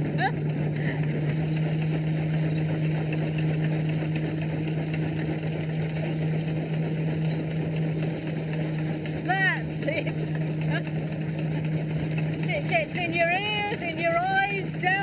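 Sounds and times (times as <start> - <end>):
threshing machine humming: 0.0 - 15.0.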